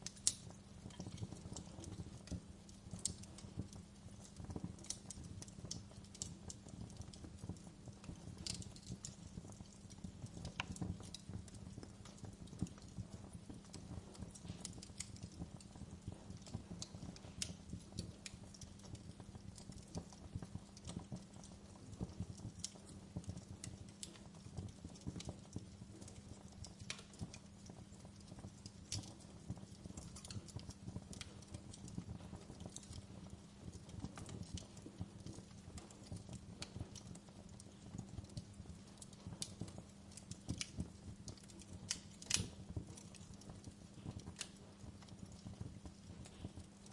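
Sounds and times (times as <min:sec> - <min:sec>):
fireplace fire crackling: 0:00.0 - 0:46.9.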